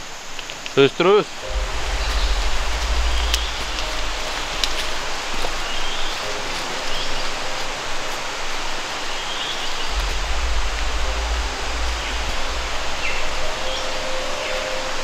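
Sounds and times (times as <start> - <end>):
dense rainforest hiss: 0.0 - 15.0
low rumble: 1.4 - 8.8, 9.6 - 15.0.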